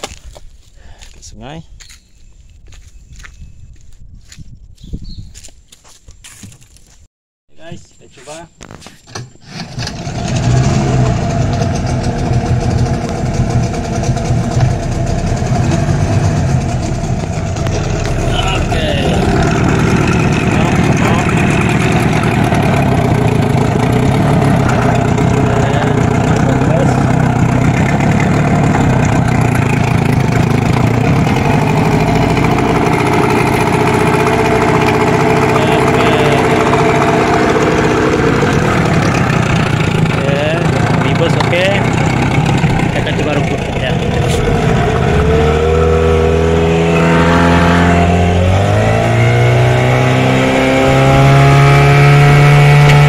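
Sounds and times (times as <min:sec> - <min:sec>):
outboard motor running: 0:09.4 - 0:53.0
steady whine: 0:09.8 - 0:53.0.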